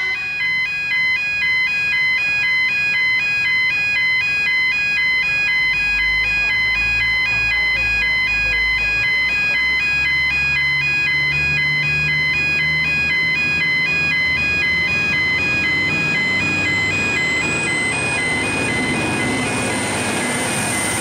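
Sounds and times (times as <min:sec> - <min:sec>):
two-tone warning alarm: 0:00.0 - 0:21.0.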